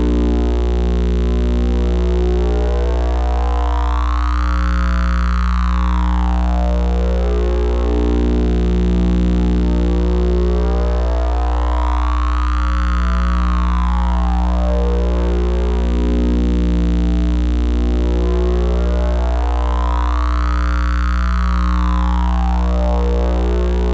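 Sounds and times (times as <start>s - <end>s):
held electronic tones: 0.0s - 23.9s
low electronic hum: 0.0s - 23.9s.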